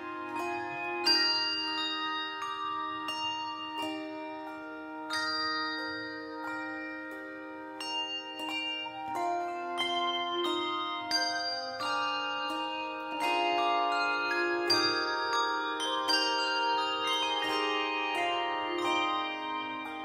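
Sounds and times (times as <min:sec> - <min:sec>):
handbell choir ringing chords: 0:00.0 - 0:20.0.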